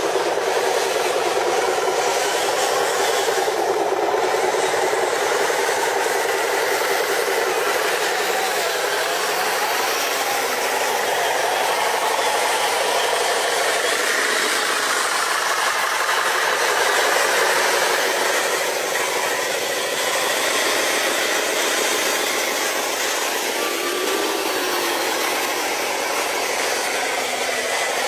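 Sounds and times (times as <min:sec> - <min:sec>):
small electric motors whirring: 0:00.0 - 0:28.0.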